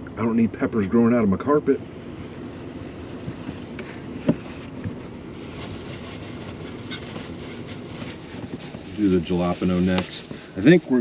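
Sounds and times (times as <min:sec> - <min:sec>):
low rumble of wind buffeting: 0:00.3 - 0:11.0.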